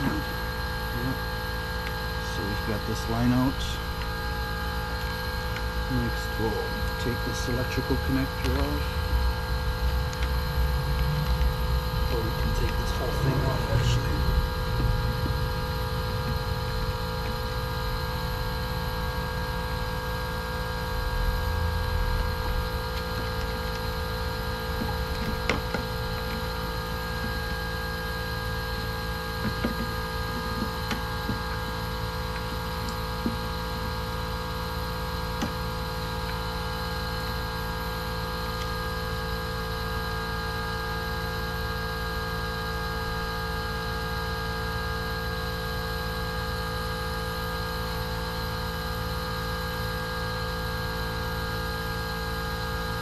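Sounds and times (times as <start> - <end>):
steady hum of fixed tones: 0.0 - 53.0.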